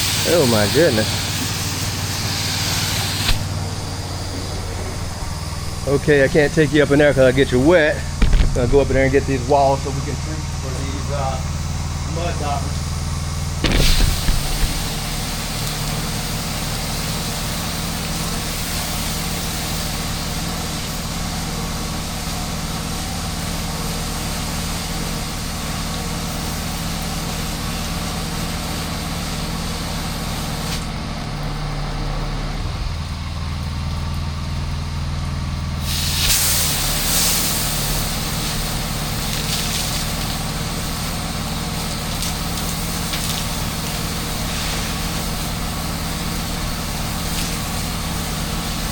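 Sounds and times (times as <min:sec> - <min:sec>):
water spraying hiss: 0:00.0 - 0:31.1, 0:35.8 - 0:48.9
pressure washer engine running: 0:00.0 - 0:48.9.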